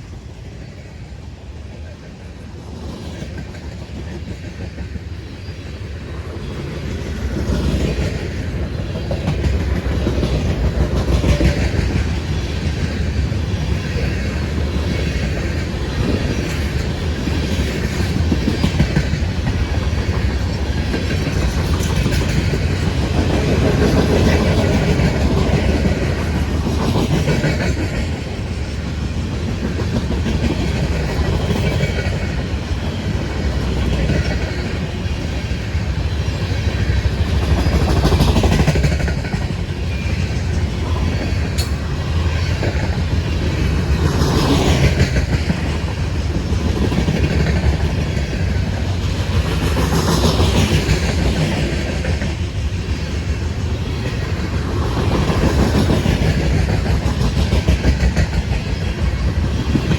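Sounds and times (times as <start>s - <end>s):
freight train rumbling past: 0.0s - 59.9s
wheels clattering on rail: 2.8s - 59.9s.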